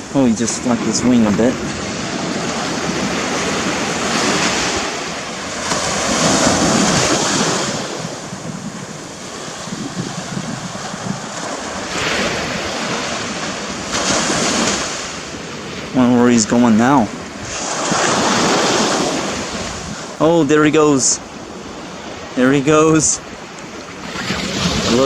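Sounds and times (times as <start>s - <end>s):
surf washing up beach: 0.0s - 25.0s
wind buffeting microphone: 0.0s - 25.0s.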